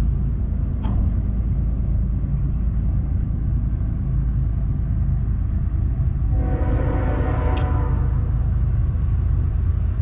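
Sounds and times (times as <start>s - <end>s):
distant diesel locomotive rumble: 0.0s - 10.0s.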